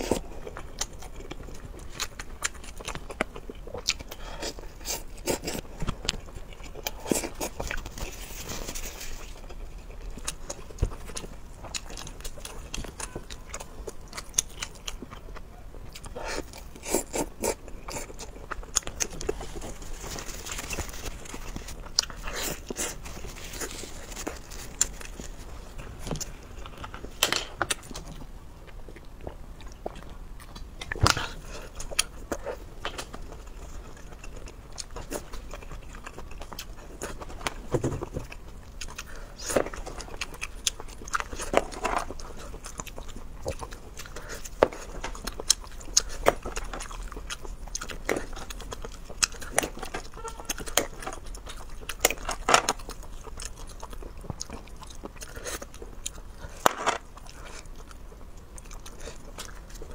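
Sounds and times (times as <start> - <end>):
chewing: 0.0 - 59.9.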